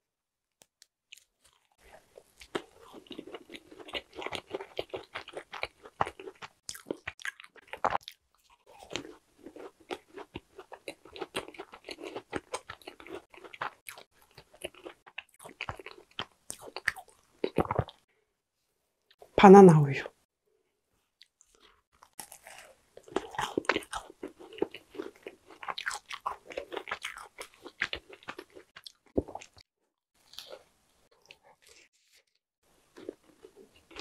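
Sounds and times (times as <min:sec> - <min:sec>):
soft chewy chewing: 0:01.1 - 0:18.1, 0:21.0 - 0:29.6, 0:30.2 - 0:34.0.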